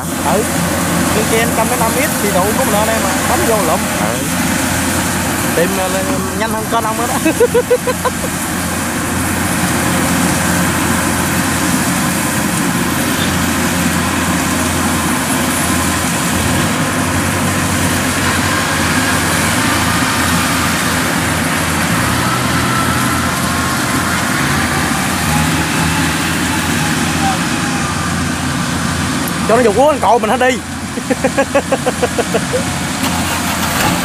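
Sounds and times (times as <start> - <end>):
combine harvesters droning: 0.0 - 34.0.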